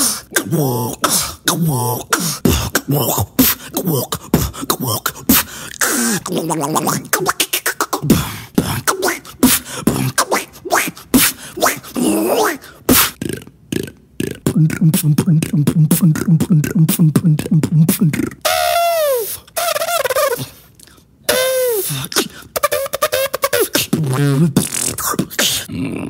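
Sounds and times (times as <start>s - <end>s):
person beatboxing: 0.0s - 20.6s, 21.3s - 25.7s.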